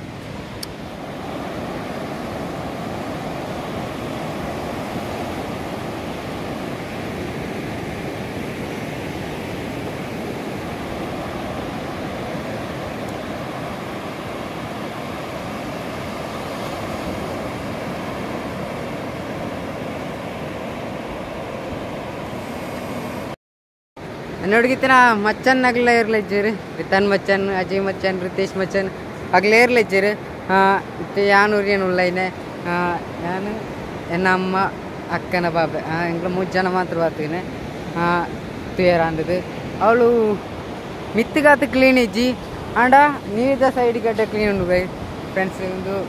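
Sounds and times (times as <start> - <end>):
waves breaking over sand: 0.0 - 23.4, 24.0 - 46.0.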